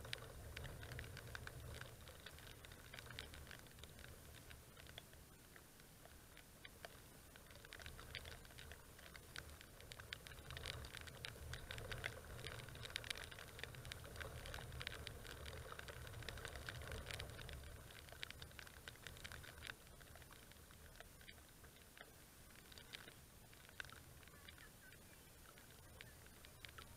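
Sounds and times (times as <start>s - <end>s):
faint low rumble: 0.0s - 26.9s
raindrops tapping on camera: 0.0s - 26.9s.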